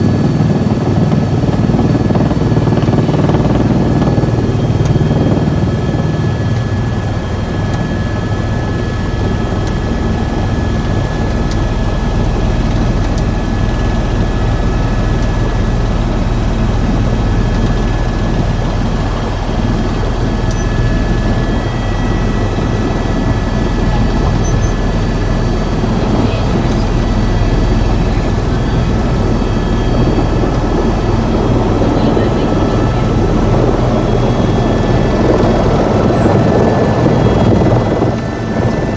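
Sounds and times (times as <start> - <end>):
helicopter rotor drone: 0.0 - 38.9
high turbine whine: 0.0 - 38.9.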